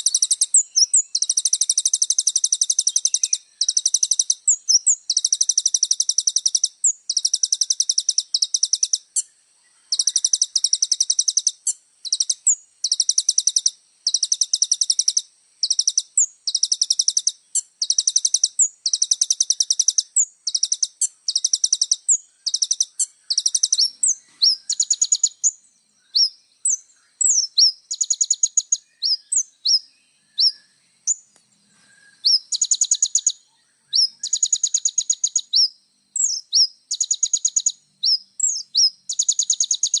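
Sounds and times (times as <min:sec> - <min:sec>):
sunbird buzzy trills: 0:00.0 - 0:40.0.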